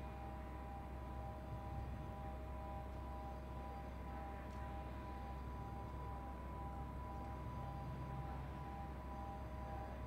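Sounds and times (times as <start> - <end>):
machine hum with steady tones: 0.0 - 10.0.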